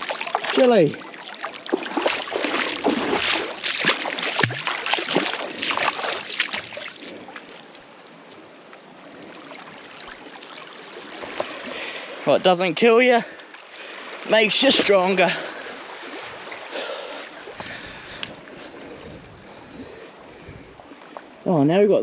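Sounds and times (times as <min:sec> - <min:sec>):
water washing: 0:00.0 - 0:20.1
feet splashing through water: 0:00.0 - 0:21.4.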